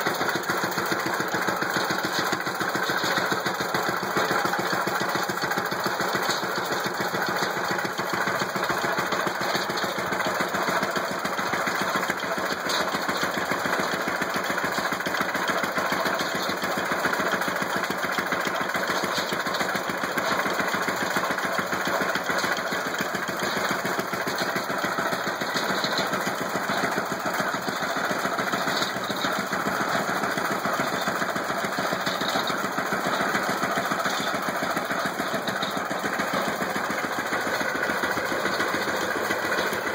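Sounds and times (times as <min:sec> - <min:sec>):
hay baler clatter: 0:00.0 - 0:39.9
stationary engine running: 0:00.0 - 0:39.9.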